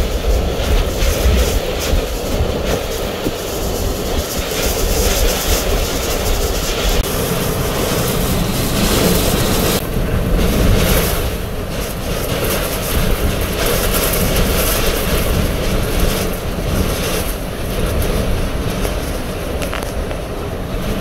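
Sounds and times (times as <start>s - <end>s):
driving rain: 0.0s - 21.0s
hurricane wind: 0.0s - 21.0s.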